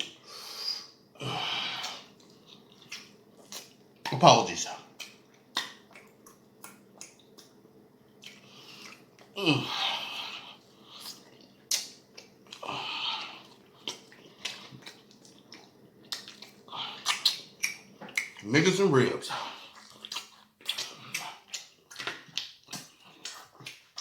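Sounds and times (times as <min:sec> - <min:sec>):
wet chewing and lip-smacking: 0:01.8 - 0:04.2, 0:04.9 - 0:09.4, 0:10.6 - 0:18.5, 0:19.4 - 0:24.0.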